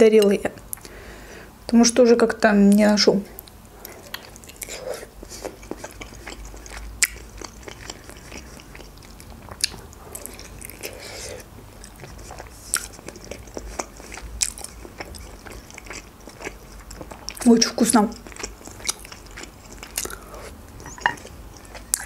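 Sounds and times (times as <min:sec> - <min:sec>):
wet chewing sounds: 0:03.4 - 0:22.0.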